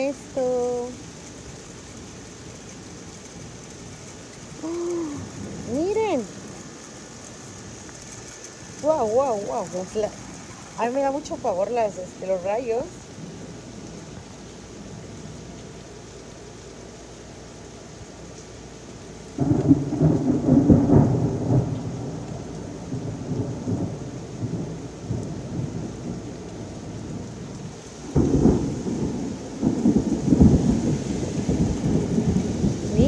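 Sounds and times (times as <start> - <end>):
thunder rumbling: 0.0 - 16.3, 19.0 - 33.0
heavy rain: 0.0 - 33.0.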